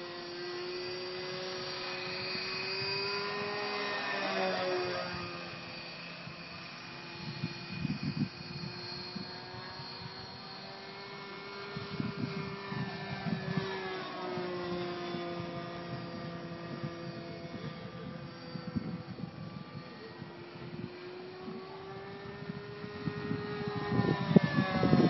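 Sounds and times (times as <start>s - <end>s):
model plane engine buzzing: 0.0s - 25.0s.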